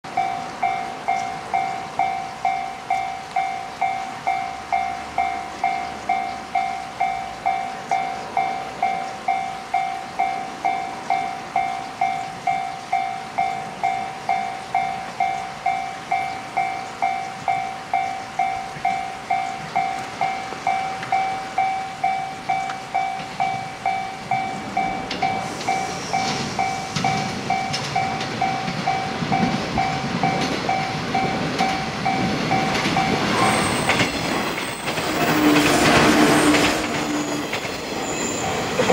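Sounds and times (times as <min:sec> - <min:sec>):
level crossing bell ringing: 0:00.1 - 0:34.0
electric train rumble: 0:00.1 - 0:38.9.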